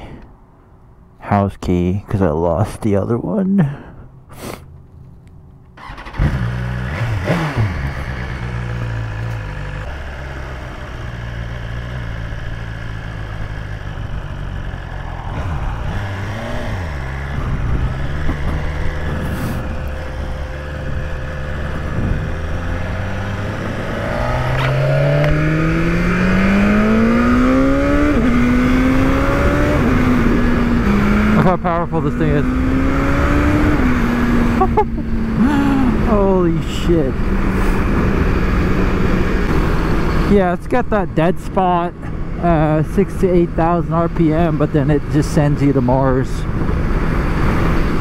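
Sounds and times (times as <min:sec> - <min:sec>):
motorcycle engine revving: 0:05.8 - 0:48.0.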